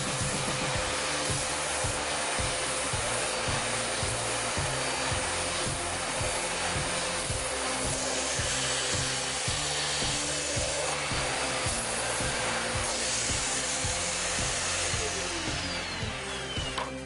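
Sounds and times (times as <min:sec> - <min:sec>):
background music with beat: 0:00.0 - 0:17.0
vacuum cleaner on carpet: 0:00.0 - 0:17.0.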